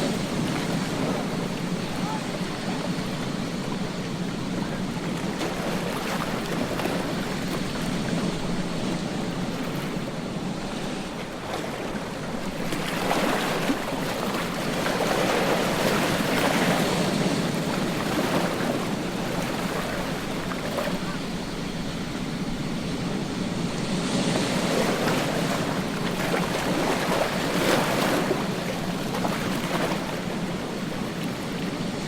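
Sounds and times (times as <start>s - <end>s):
ocean waves breaking on beach: 0.0s - 32.0s.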